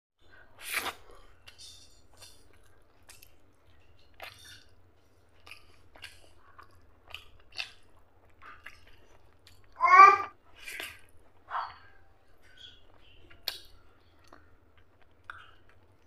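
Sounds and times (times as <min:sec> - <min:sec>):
wet chewing and lip smacks: 0:00.7 - 0:09.8, 0:10.5 - 0:16.0.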